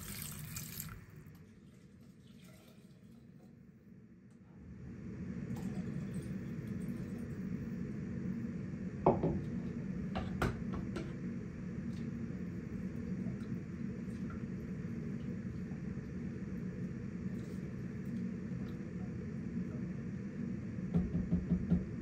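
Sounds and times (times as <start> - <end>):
steady low hum: 3.0 - 22.0.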